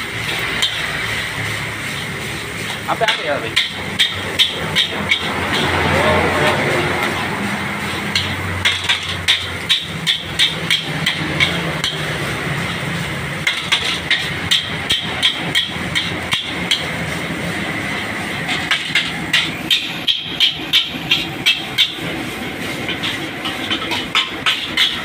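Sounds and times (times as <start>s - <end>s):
metal spatula clanking on wok: 0.0s - 17.2s, 17.9s - 22.1s, 22.8s - 25.0s.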